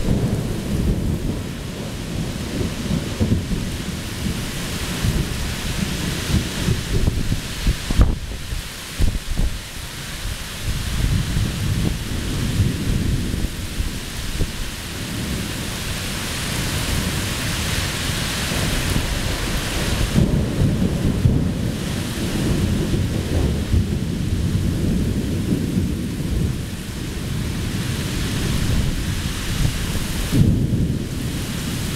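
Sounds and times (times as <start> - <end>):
torrential rain hissing: 0.0 - 31.9.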